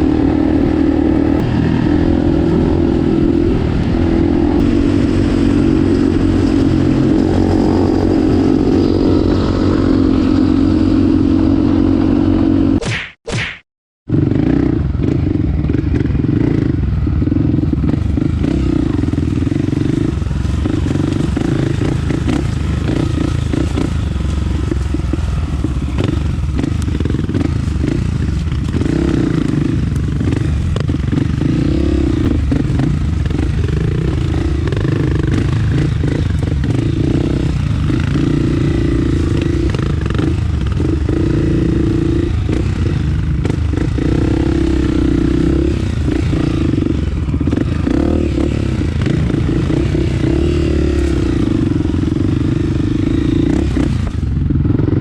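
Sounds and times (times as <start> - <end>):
trail bike engine revving: 0.0 - 12.8, 14.1 - 55.0.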